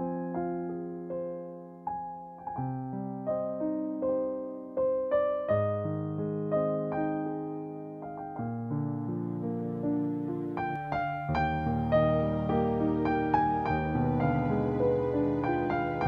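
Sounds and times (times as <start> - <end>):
slow piano notes and chords: 0.0 - 16.0.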